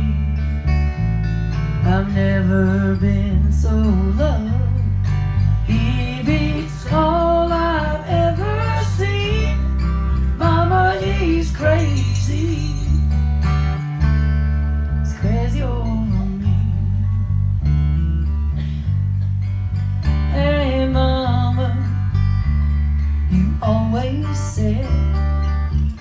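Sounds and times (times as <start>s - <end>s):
bass notes: 0.0s - 26.0s
country band playing: 0.0s - 26.0s
strummed acoustic guitar: 0.0s - 26.0s.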